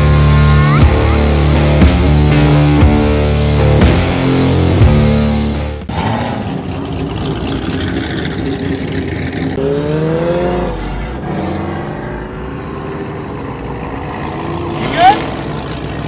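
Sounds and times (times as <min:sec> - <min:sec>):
car engines idling: 0:00.0 - 0:16.0
engine revving: 0:00.0 - 0:16.0.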